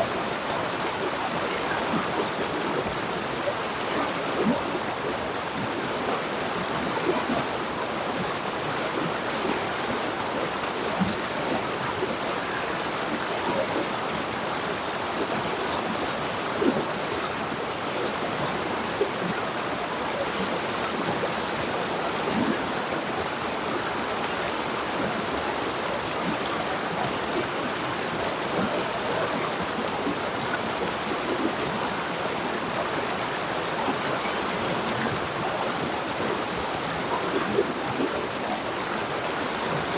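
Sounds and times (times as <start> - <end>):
river water rushing: 0.0 - 39.9
water splashing and gurgling: 0.0 - 39.9.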